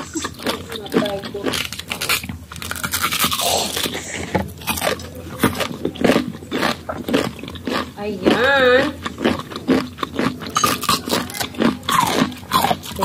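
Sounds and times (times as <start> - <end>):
crunchy chewing of mango: 0.0 - 13.0.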